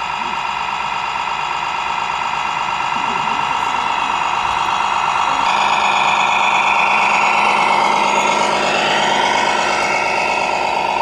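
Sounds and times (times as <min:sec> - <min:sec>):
toy truck engine with whine: 0:00.0 - 0:11.0.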